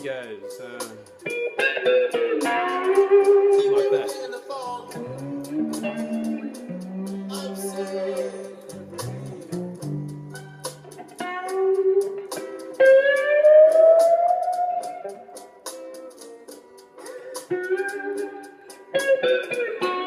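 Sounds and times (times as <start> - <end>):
slide guitar blues lick: 0.0 - 20.0.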